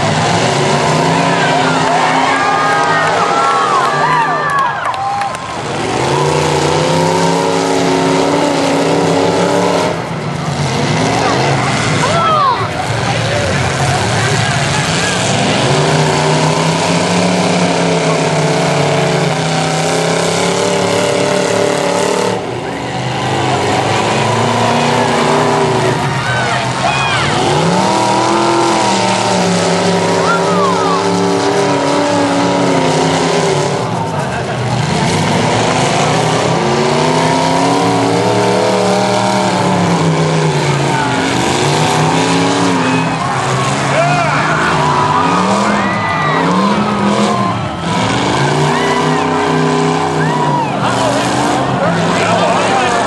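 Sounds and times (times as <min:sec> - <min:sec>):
car engines revving: 0:00.0 - 0:53.0
loud steady din: 0:00.0 - 0:53.0.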